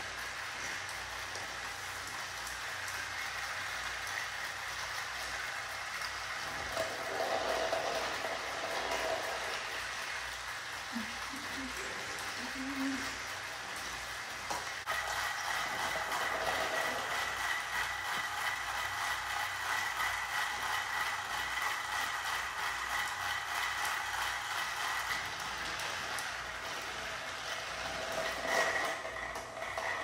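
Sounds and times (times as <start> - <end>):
toy train motors whining: 0.0 - 30.0
wheels clicking over plastic track: 0.0 - 30.0.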